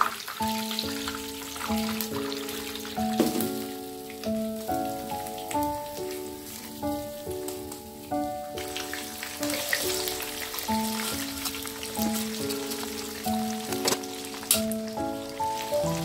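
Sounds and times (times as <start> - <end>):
food sizzling in hot oil: 0.0 - 16.0
instrumental background music: 0.0 - 16.0.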